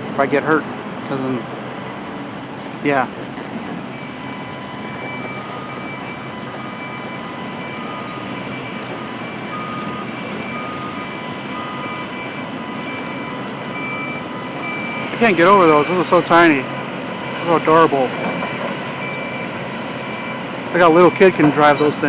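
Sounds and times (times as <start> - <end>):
machine engines running: 0.0 - 22.0
backup alarms beeping: 1.2 - 22.0.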